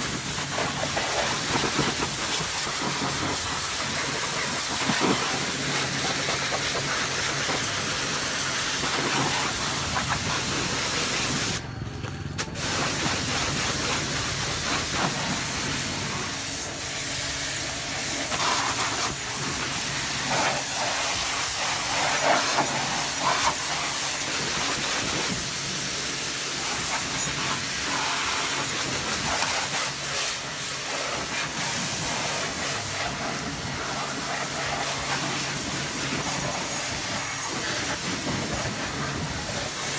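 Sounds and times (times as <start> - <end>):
pressure washer spraying: 0.0 - 11.6, 12.4 - 39.9.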